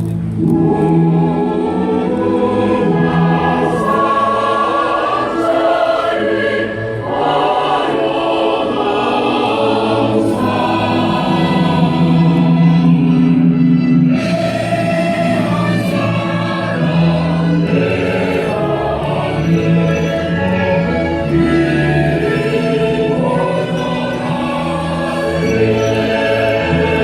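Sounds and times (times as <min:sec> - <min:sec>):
musical accompaniment: 0:00.0 - 0:27.0
choir singing sustained notes: 0:00.3 - 0:27.0.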